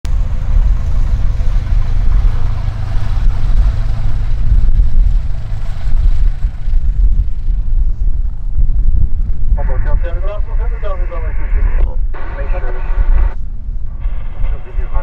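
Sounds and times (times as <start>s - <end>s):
light aircraft engine drone: 0.1s - 15.0s
wind buffeting microphone: 0.1s - 15.0s.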